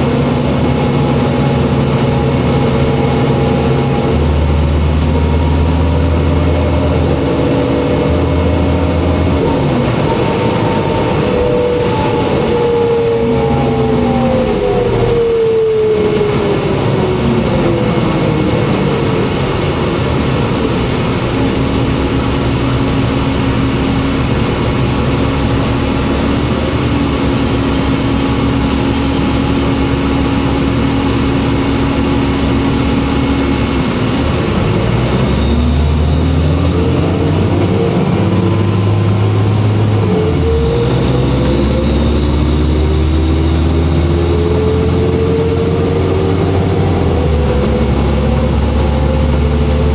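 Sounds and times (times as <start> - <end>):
bus diesel engine whine: 0.0 - 49.9.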